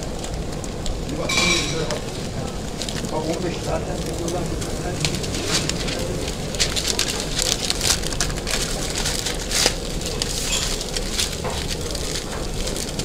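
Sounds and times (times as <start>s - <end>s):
low background noise: 0.0s - 13.0s
wrapping paper crinkling: 0.0s - 13.0s.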